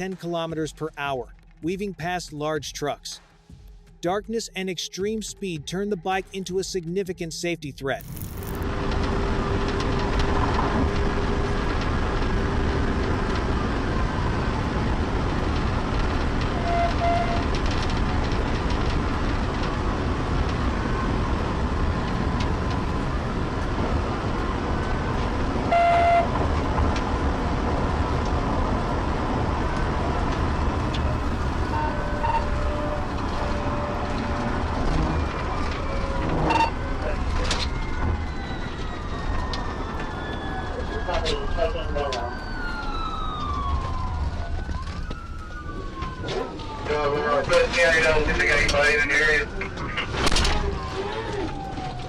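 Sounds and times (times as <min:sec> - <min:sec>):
car road wind and engine noise: 0:08.0 - 0:52.0
faint siren wailing: 0:09.3 - 0:52.0.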